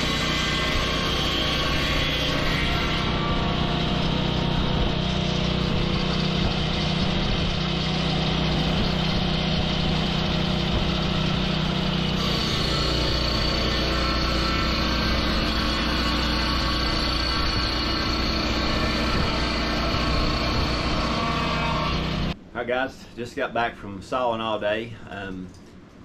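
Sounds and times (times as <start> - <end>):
sawmill gasoline engine running: 0.0 - 22.4
high steady whine: 0.0 - 24.7.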